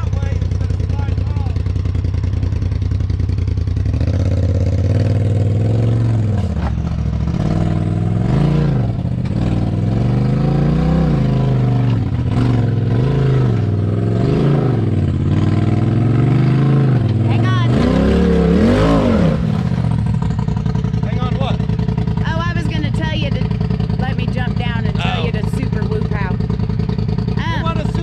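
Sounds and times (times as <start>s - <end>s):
engine revving in throttle bursts: 3.7s - 6.6s, 7.2s - 28.0s.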